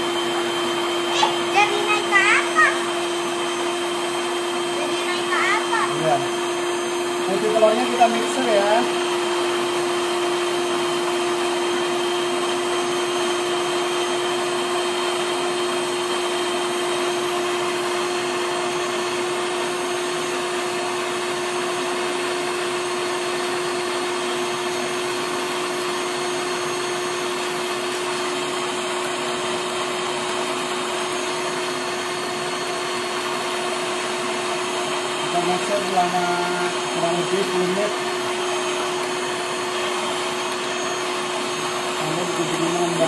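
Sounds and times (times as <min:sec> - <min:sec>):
electric hand mixer whisking: 0:00.0 - 0:43.0.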